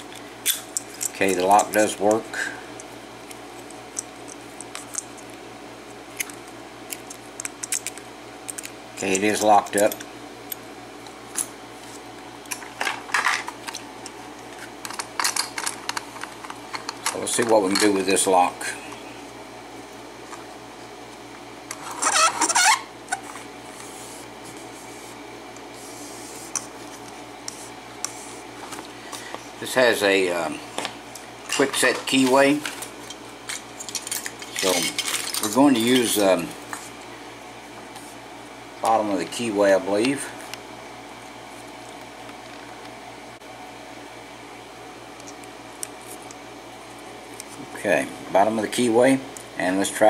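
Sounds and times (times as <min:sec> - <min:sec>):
pulsing mechanical hum with hiss: 0:00.0 - 0:50.0.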